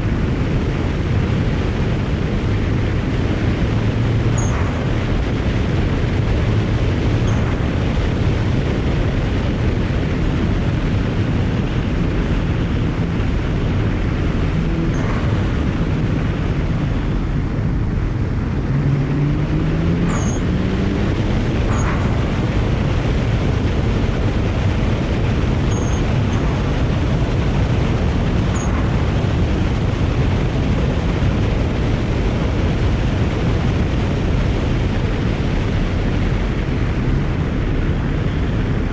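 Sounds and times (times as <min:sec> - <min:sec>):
road and wind noise: 0:00.0 - 0:38.9
turbocharged car engine under load: 0:00.0 - 0:38.9.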